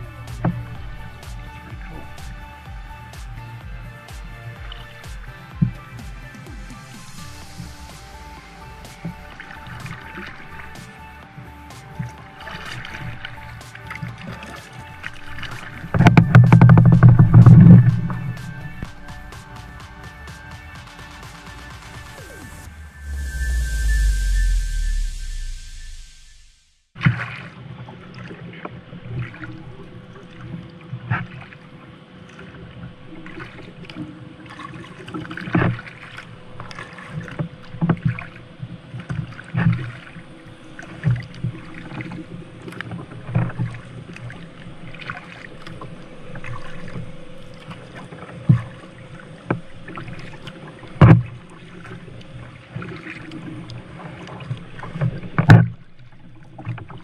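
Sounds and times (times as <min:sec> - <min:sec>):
paddle splashing in water: 0:00.0 - 0:26.0, 0:27.0 - 0:57.0.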